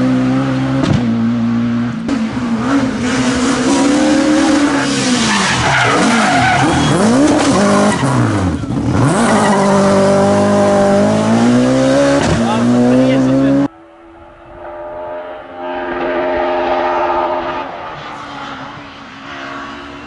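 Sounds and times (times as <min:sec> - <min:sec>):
rally car engine revving: 0:00.0 - 0:20.0
tyres skidding: 0:02.1 - 0:20.0.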